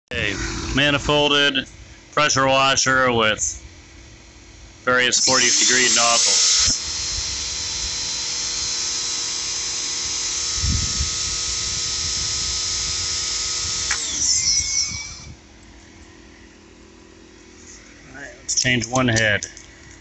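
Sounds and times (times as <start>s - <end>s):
pressure washer whine: 0.1s - 3.5s, 4.2s - 18.6s.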